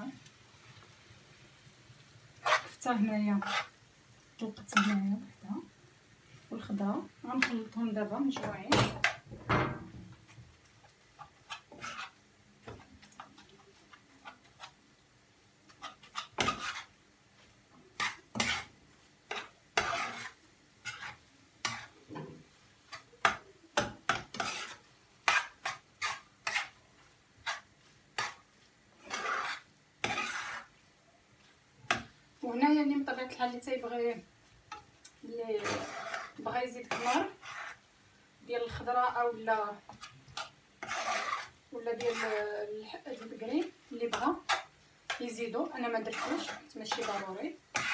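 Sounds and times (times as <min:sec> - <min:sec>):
spoon scraping frying pan: 0:02.4 - 0:03.8, 0:04.4 - 0:05.4, 0:06.6 - 0:14.8, 0:15.7 - 0:37.9, 0:38.5 - 0:47.9.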